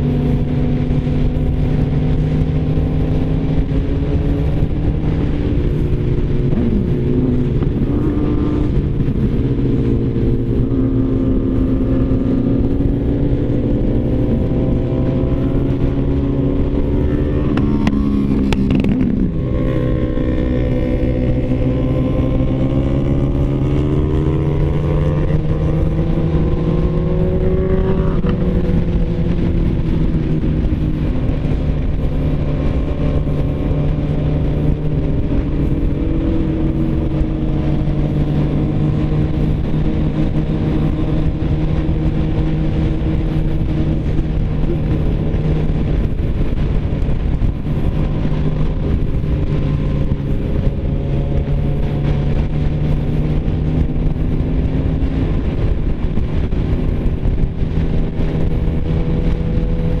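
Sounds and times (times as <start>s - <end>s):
motorcycle engine accelerating: 0.0s - 60.0s
rushing wind: 0.0s - 60.0s.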